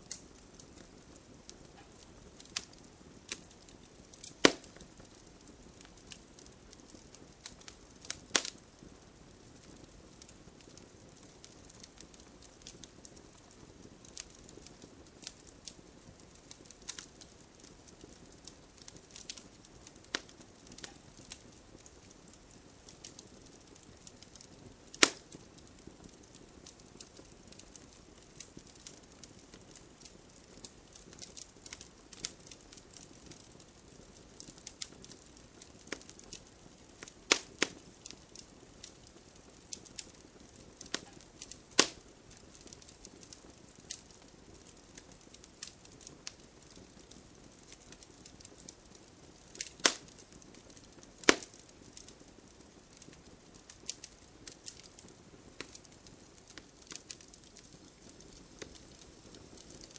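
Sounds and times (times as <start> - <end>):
soft low hiss: 0.0 - 59.9
wood fire crackling: 0.0 - 59.9.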